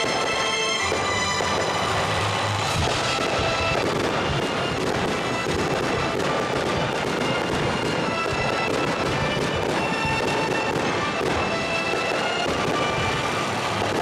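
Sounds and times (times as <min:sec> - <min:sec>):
fireworks bursting and crackling: 0:00.0 - 0:14.0
music with sustained tones: 0:00.0 - 0:14.0.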